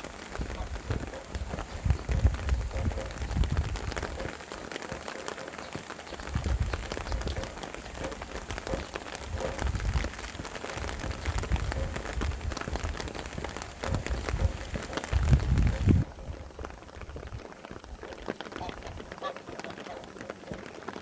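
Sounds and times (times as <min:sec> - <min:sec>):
wind gusts rumbling: 0:00.0 - 0:20.6
rain pattering: 0:00.0 - 0:21.0.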